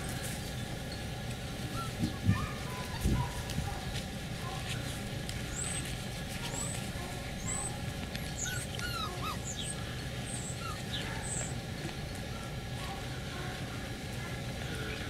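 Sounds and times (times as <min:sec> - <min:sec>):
puppies whimpering: 0:00.0 - 0:15.0
steady low rumble: 0:00.0 - 0:15.0.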